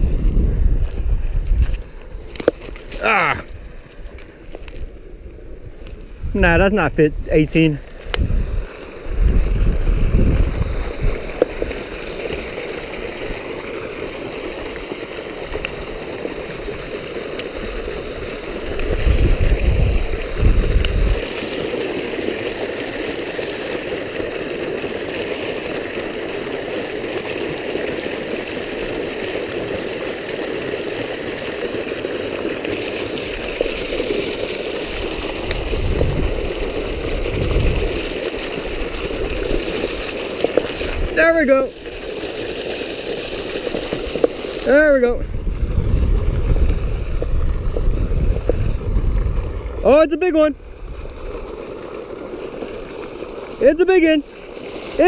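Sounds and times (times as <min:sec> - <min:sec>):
water gushing into a canal: 0:00.0 - 0:55.0.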